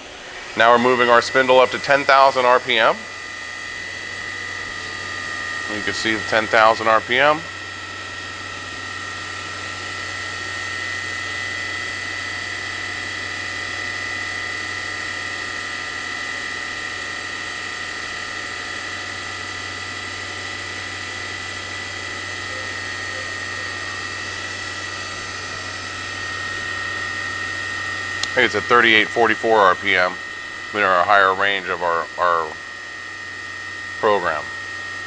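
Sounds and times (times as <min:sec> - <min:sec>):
low machine hum: 0:00.0 - 0:35.0
machine spindle high-pitched whine: 0:00.0 - 0:35.0.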